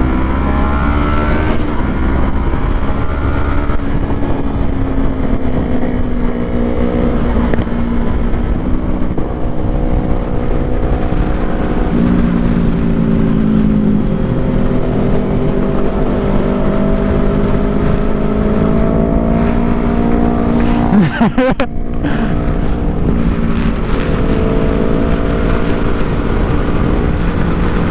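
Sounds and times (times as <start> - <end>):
dense low rumble: 0.0 - 27.9
vehicle engine running: 0.0 - 27.9.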